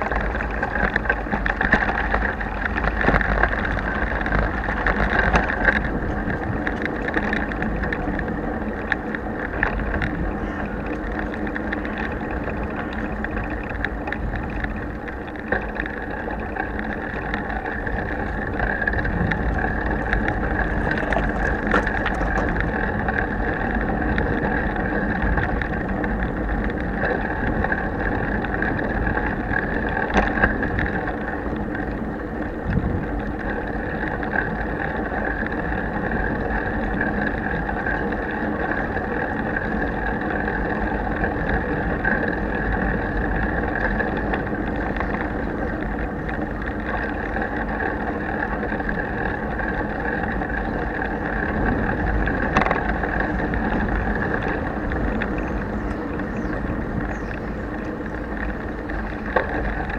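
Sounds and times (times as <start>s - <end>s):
bicycle tyre noise: 0.0s - 59.9s
bike rattles and clicks: 0.0s - 59.9s
wind rumble: 0.0s - 59.9s.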